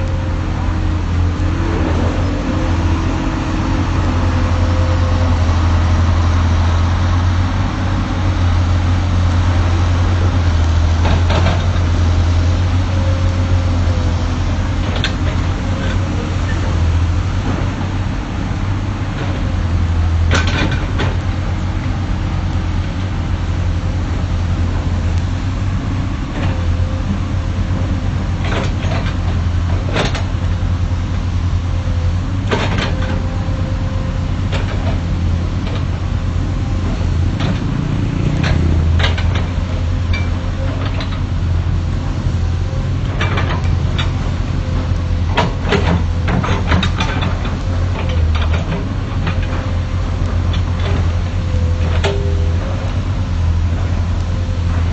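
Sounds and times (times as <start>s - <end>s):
diesel engine humming: 0.0s - 54.9s.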